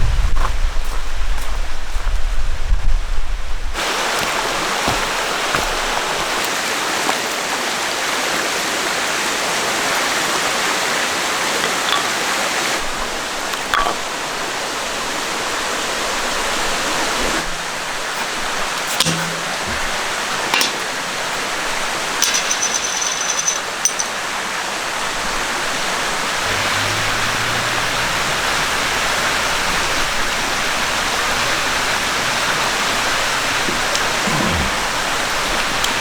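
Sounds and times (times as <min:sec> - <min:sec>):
stream flowing over rocks: 0:03.8 - 0:36.0.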